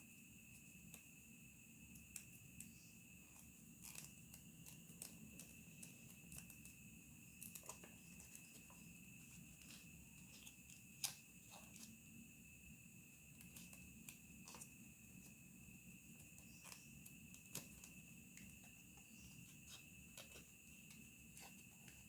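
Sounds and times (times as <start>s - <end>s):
crickets chirring: 0.0s - 22.0s
soft clicks and crackles: 1.8s - 12.0s, 13.3s - 15.4s, 16.2s - 22.0s.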